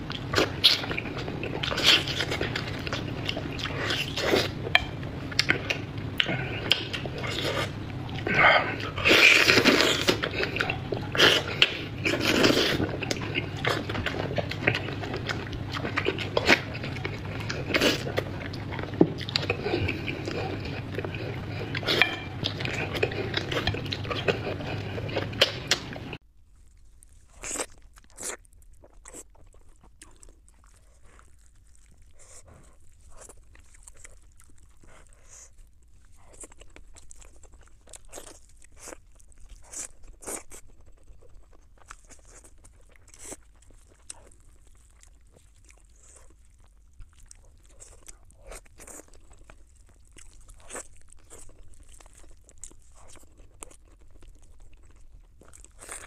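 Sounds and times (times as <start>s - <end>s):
biting and chewing: 0.0s - 56.0s.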